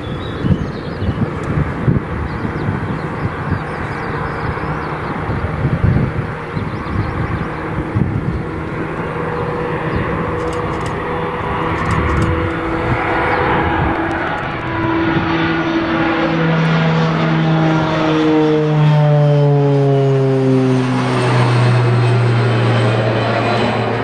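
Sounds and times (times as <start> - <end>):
turboprop aircraft propeller drone: 0.0 - 24.0.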